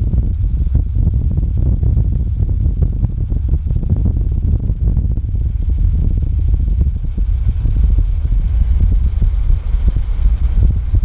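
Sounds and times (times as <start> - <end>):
gusty wind buffeting microphone: 0.0 - 11.0.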